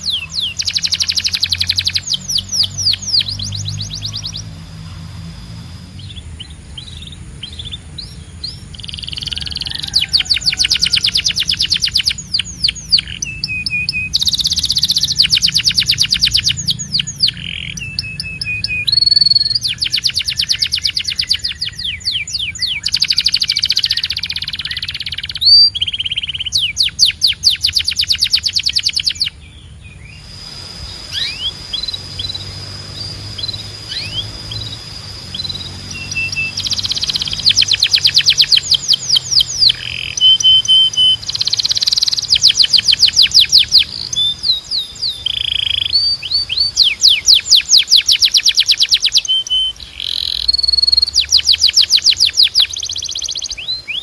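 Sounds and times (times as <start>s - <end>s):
canary trilling: 0.0s - 29.4s, 31.1s - 54.0s
canary chirps: 0.0s - 54.0s.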